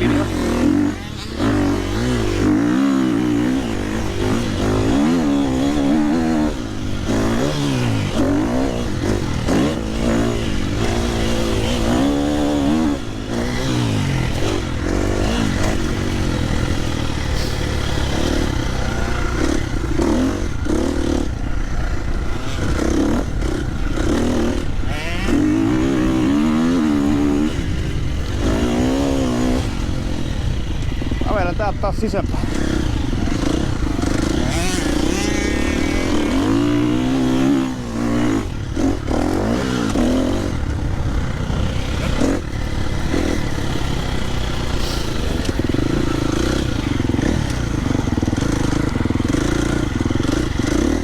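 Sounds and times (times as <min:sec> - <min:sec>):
motocross bike engine revving: 0:00.0 - 0:51.0.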